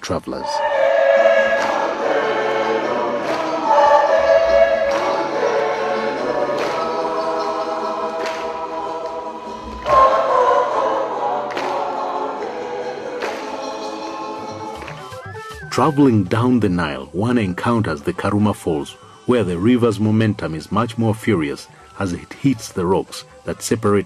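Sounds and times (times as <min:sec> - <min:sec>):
choir singing: 0:00.2 - 0:24.0.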